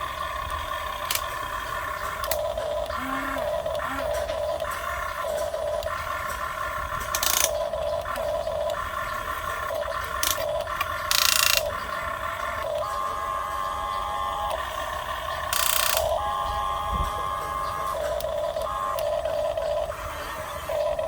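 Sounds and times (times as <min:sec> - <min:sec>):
electric gear motors whining: 0:00.0 - 0:21.0.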